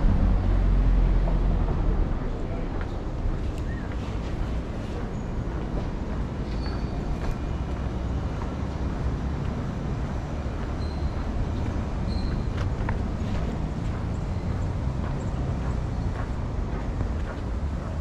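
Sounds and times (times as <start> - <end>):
rumble of passing vehicles: 0.0 - 18.0.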